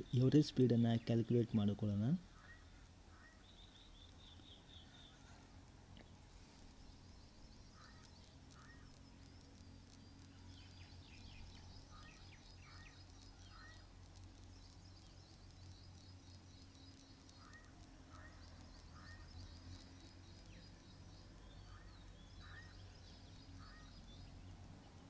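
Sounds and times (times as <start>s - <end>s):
distant bird chirps: 0.0s - 25.0s.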